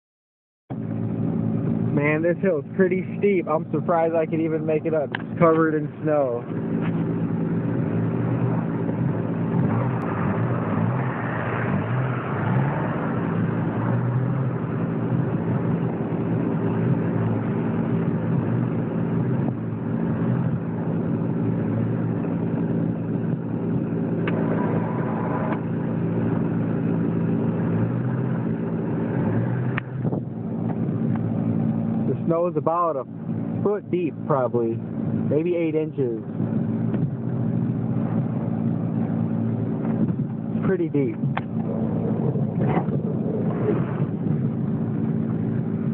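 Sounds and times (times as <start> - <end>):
car engine running: 0.7 - 45.9.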